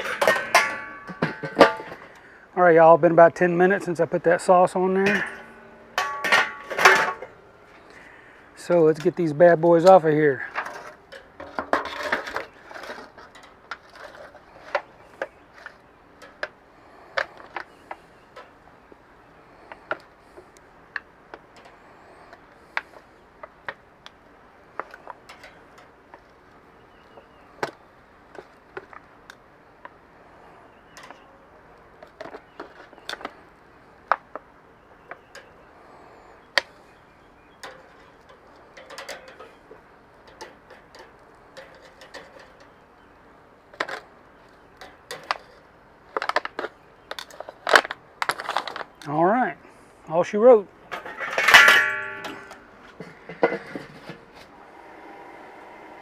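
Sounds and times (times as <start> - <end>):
clicks and clinks on grill grate: 0.0 - 2.3, 3.0 - 18.7, 19.6 - 30.0, 30.9 - 49.2, 50.8 - 54.6.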